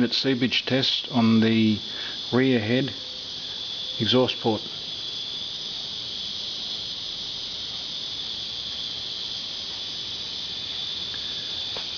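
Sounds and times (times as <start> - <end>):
faint thin whine: 0.0 - 11.9
steady high-pitched hiss: 0.0 - 11.9.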